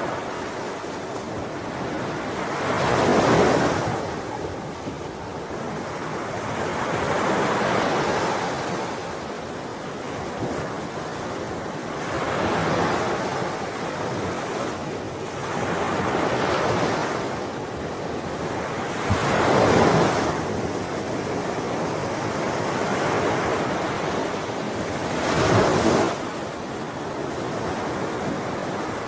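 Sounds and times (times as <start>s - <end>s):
ocean waves breaking: 0.0s - 29.0s.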